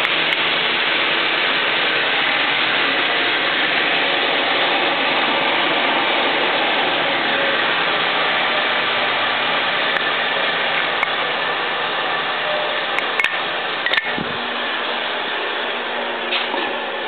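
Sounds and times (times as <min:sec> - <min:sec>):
woodworking machinery whirring: 0:00.0 - 0:17.0.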